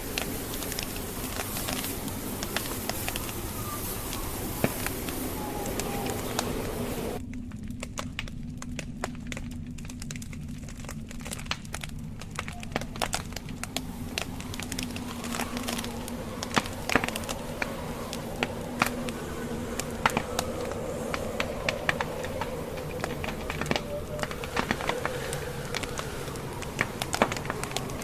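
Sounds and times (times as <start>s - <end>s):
steady low rumble: 0.0s - 28.0s
wood fire crackling and popping: 0.0s - 28.0s.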